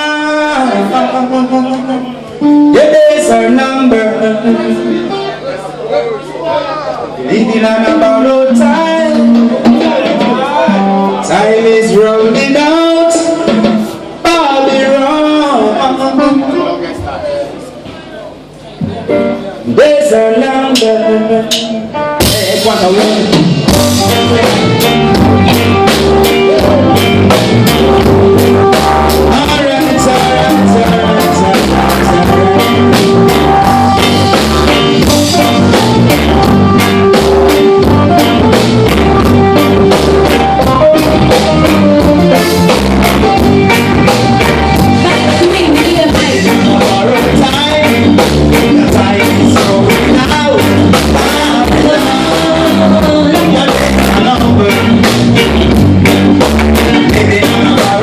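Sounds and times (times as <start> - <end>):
reggae band playing: 0.0 - 58.0.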